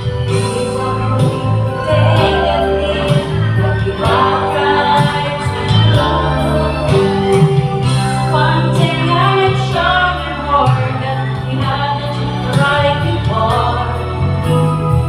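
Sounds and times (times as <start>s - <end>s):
person singing: 0.0s - 14.8s
held low accompaniment notes: 0.0s - 15.0s.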